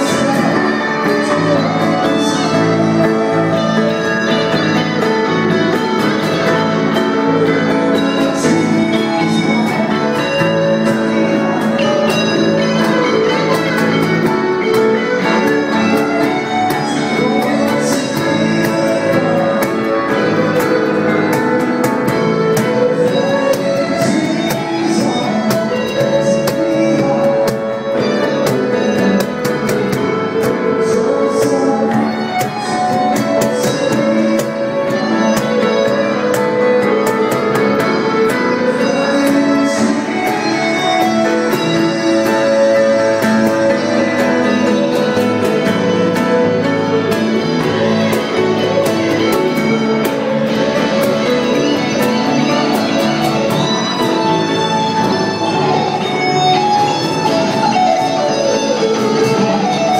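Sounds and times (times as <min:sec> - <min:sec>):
live band with guitar: 0:00.0 - 0:59.9.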